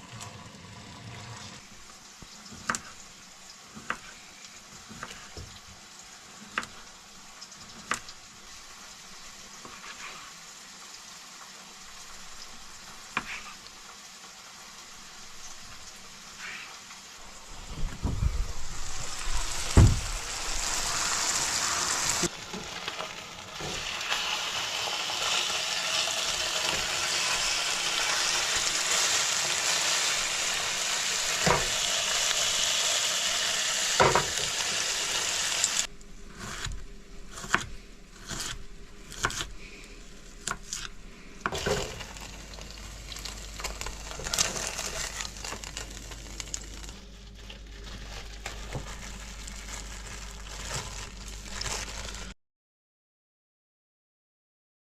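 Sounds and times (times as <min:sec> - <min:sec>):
chicken sizzling in a pan: 0:00.0 - 0:36.6, 0:40.0 - 0:52.3.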